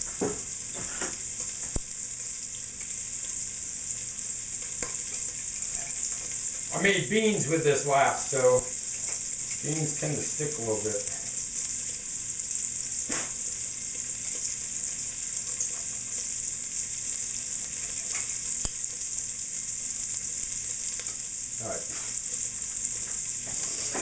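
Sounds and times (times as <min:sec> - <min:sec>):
bacon sizzling in a pan: 0:00.0 - 0:24.0.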